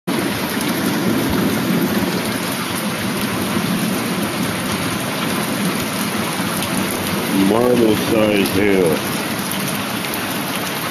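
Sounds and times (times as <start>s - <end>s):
heavy rain and hail pelting: 0.1s - 10.9s.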